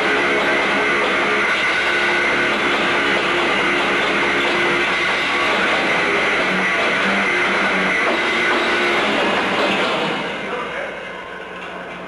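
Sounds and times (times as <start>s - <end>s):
loud electric guitar playing: 0.0s - 11.2s.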